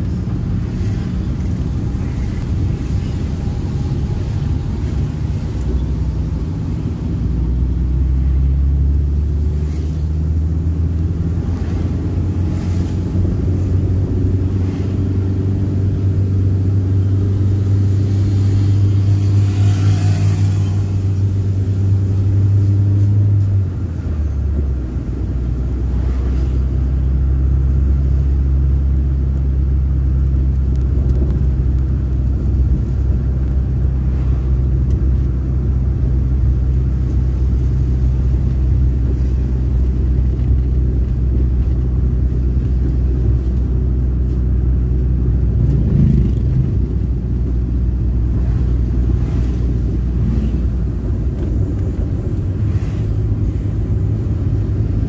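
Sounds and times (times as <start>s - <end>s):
car engine and road drone: 0.0s - 55.0s.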